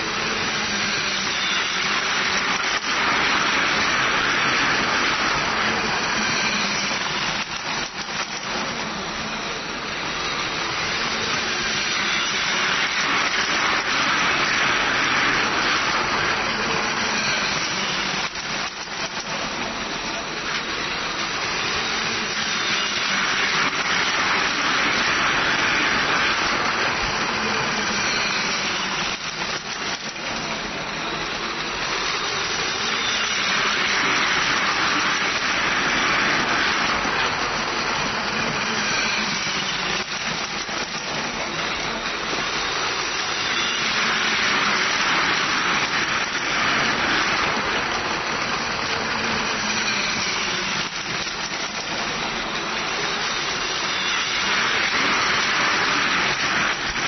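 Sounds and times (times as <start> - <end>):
toy train motor whirring: 0.0 - 57.0
toy train wheels rattling: 0.0 - 57.0.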